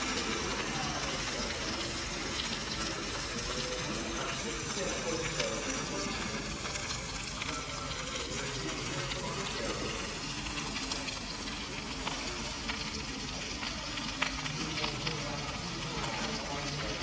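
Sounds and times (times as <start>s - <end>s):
faint background voices: 0.0s - 17.0s.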